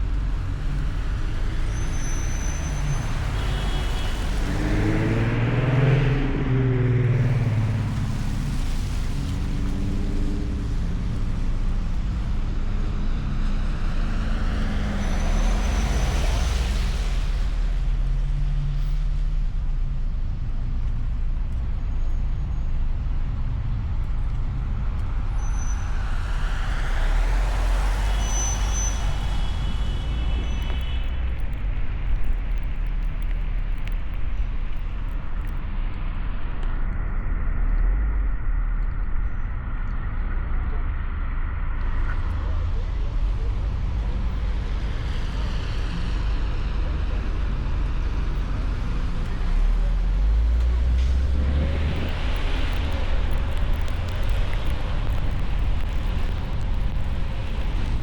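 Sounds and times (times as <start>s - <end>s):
car road and engine rumble: 0.0s - 58.0s
vehicles passing: 0.0s - 58.0s.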